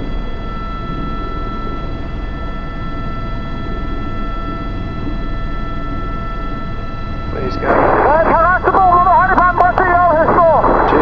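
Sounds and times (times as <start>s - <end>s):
helicopter engine whine: 0.0s - 11.0s
helicopter rotor rumble: 0.0s - 11.0s.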